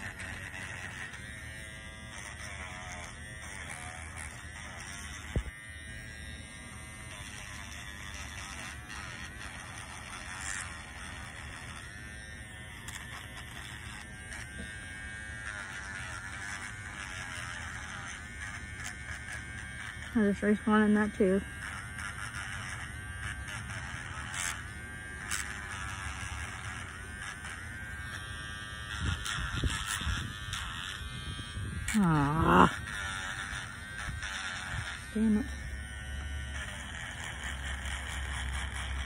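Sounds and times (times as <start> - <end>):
electric dental tool buzzing: 0.0 - 39.0.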